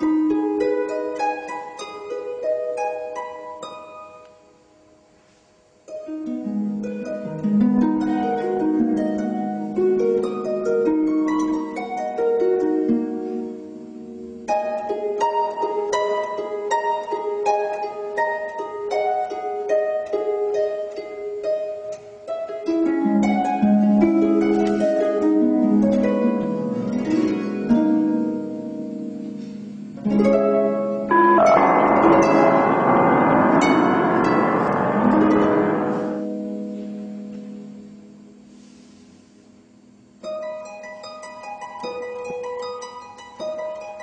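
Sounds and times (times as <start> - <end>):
solo harp melody: 0.0 - 4.5, 5.3 - 38.4, 40.2 - 44.0.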